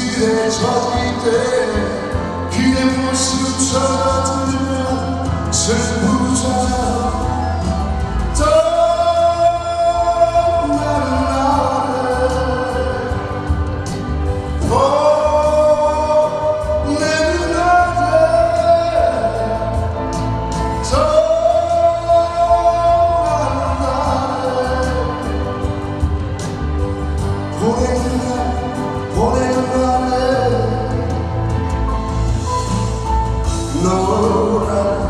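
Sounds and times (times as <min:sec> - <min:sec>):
man singing into microphone: 0:00.0 - 0:26.3, 0:27.5 - 0:31.7, 0:32.3 - 0:35.0.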